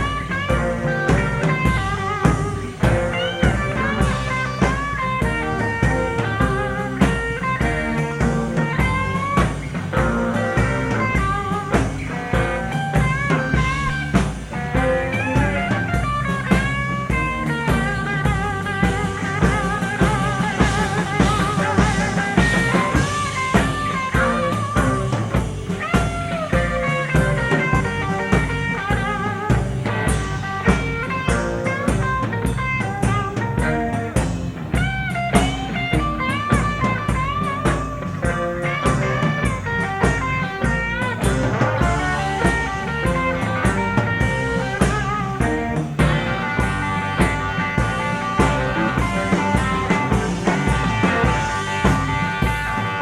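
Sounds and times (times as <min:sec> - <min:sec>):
bass guitar: 0:00.0 - 0:53.0
drum kit beat: 0:00.0 - 0:53.0
electric guitar solo: 0:00.0 - 0:53.0.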